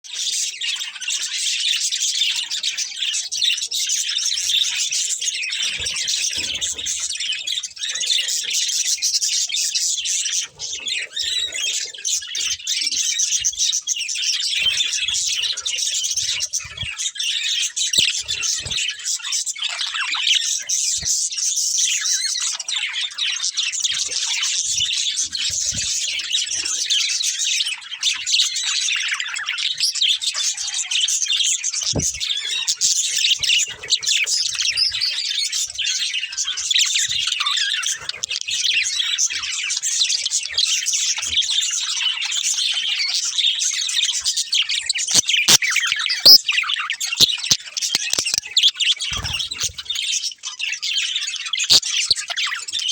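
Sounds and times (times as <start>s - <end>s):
budgerigars chattering and chirping: 0.1s - 52.9s.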